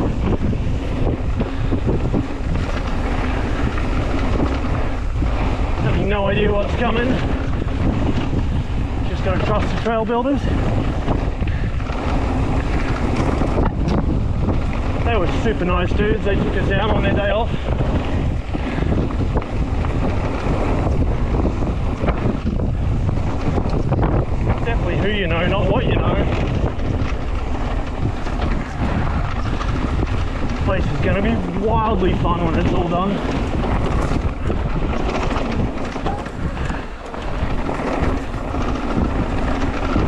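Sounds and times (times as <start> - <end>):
bike riding rumble: 0.0 - 40.0
wind on microphone: 0.0 - 40.0.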